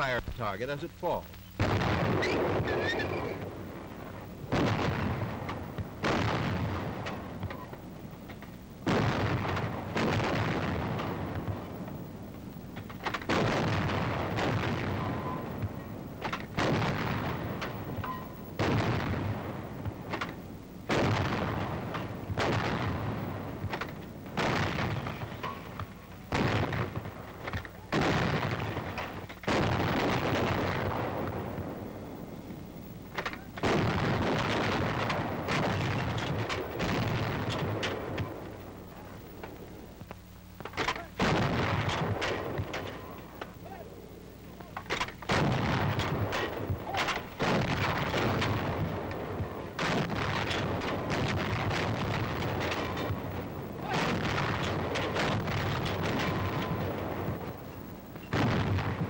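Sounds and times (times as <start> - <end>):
anti-aircraft guns firing: 1.6 - 12.1, 12.7 - 32.5, 33.1 - 39.8, 40.6 - 43.8, 44.7 - 59.0.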